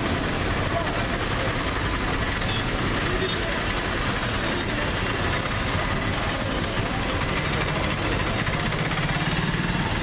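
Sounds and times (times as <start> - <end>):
street traffic engines idling: 0.0 - 10.0.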